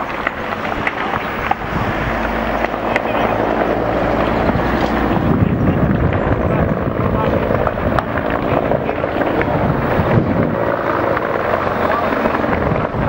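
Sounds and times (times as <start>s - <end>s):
helicopter rotor and engine: 0.0s - 13.0s
wind rumbling on microphone: 0.0s - 13.0s.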